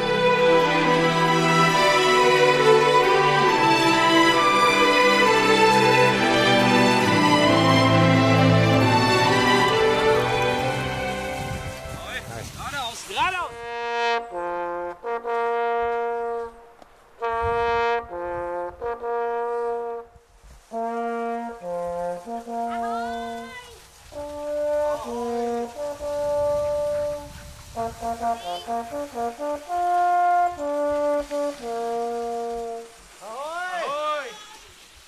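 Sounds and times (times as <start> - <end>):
brass horn fanfare: 0.0 - 33.1.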